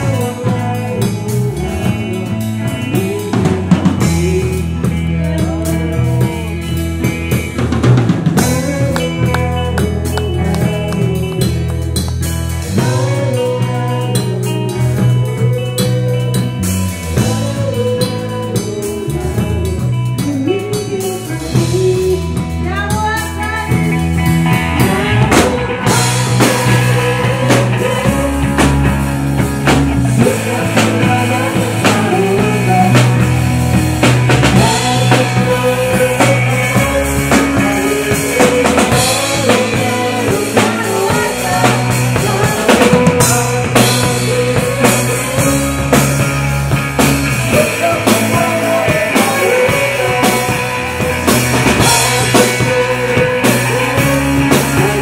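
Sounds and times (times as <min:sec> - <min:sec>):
drum kit: 0:00.0 - 0:55.0
electric bass: 0:00.0 - 0:55.0
electric guitars: 0:00.0 - 0:55.0.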